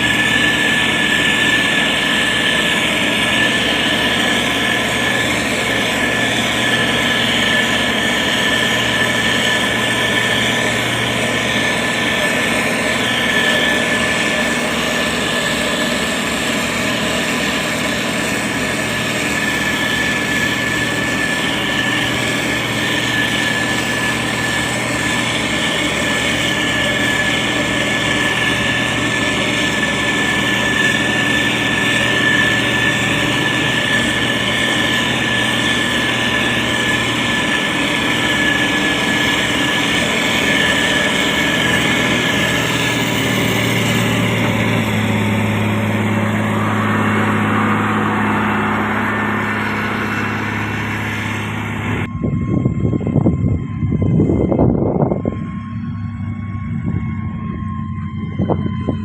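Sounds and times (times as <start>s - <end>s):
diesel engine running under load: 0.0s - 59.0s
high-pitched whine: 0.0s - 59.0s.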